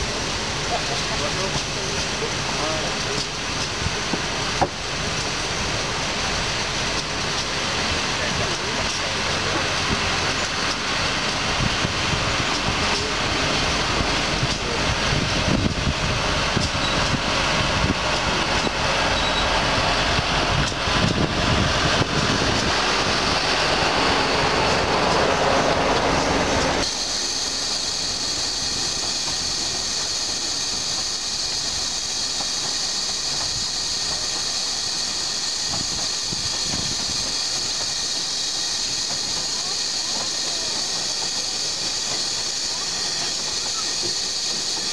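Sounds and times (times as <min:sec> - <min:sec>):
steam locomotive hissing: 0:00.0 - 0:44.9
train wheels clicking over rail joints: 0:00.0 - 0:44.9.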